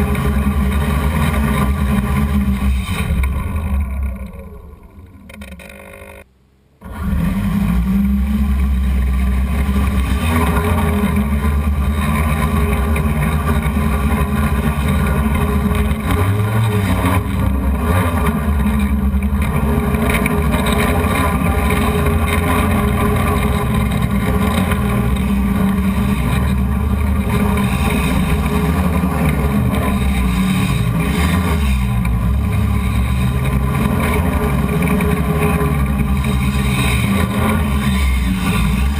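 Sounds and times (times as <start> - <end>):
drone motors and propellers droning: 0.0 - 6.2, 6.9 - 38.9.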